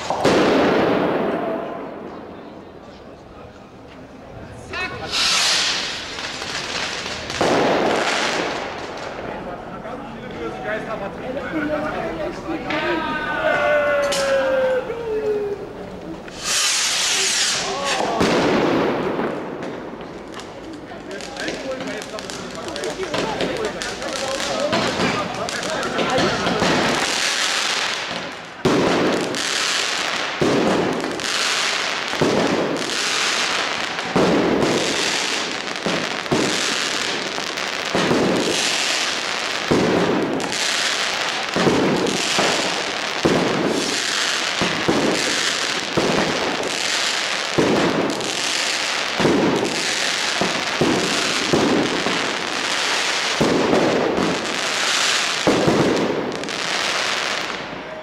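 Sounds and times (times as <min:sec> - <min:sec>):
loud firework bangs: 0:00.0 - 0:02.5, 0:05.0 - 0:09.4, 0:16.3 - 0:58.0
firecrackers crackling: 0:00.0 - 0:58.0.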